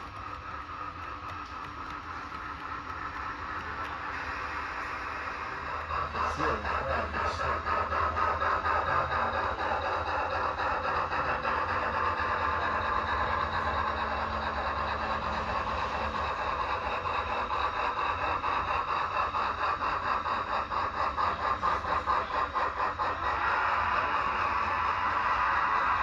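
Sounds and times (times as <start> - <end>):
model train running: 0.0 - 26.0.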